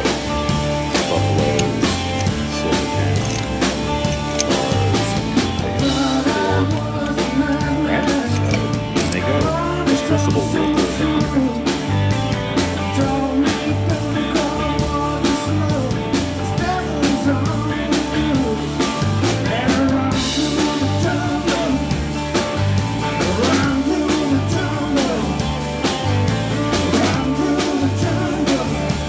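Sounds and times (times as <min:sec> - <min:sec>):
rock music with singing: 0:00.0 - 0:29.0.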